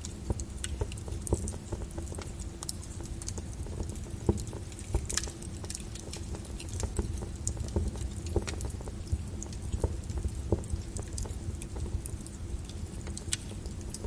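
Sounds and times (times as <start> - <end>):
rain pattering: 0.0 - 14.0
wood fire crackling and popping: 0.0 - 14.0.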